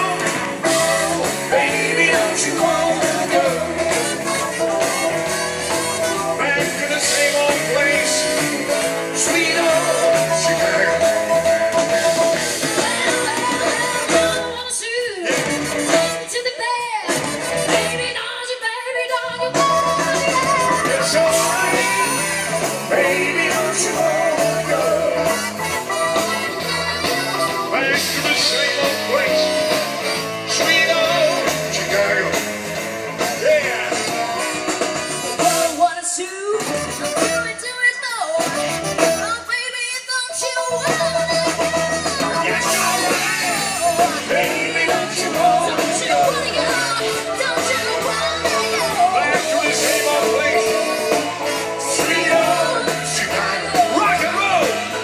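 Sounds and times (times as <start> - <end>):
live blues-rock band with singing: 0.0 - 55.0.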